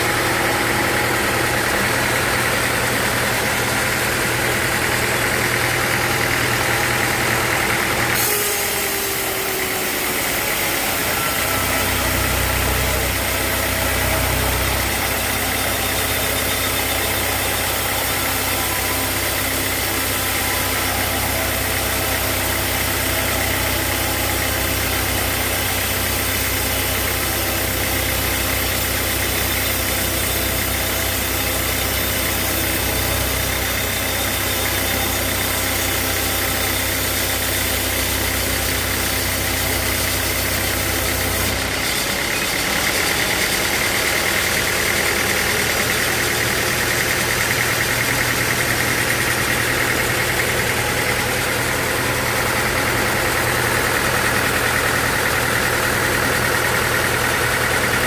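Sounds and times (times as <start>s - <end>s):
high machine whine: 0.0s - 58.0s
sawmill machinery low hum: 0.0s - 58.0s.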